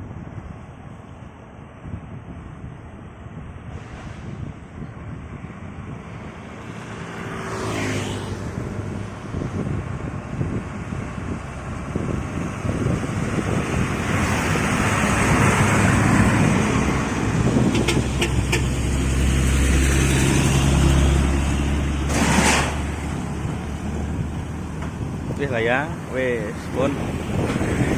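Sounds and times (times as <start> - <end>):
heavy truck engine: 0.1 - 7.4, 8.3 - 27.9.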